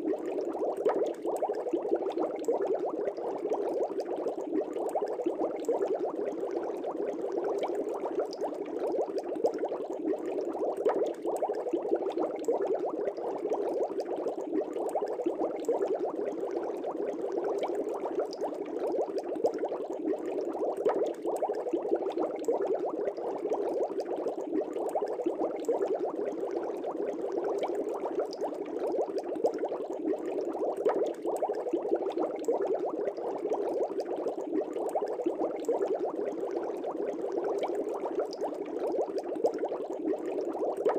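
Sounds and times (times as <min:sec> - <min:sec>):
air bubbling through aquarium water: 0:00.0 - 0:40.9.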